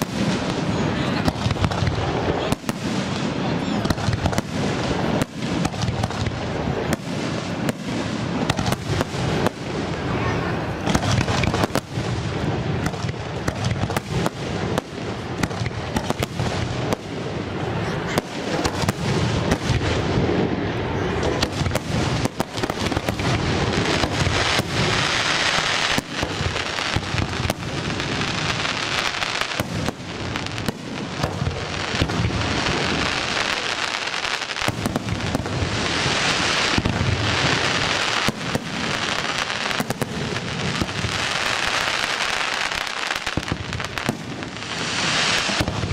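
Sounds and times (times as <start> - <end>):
hissing crackle of fireworks: 0.0 - 45.9.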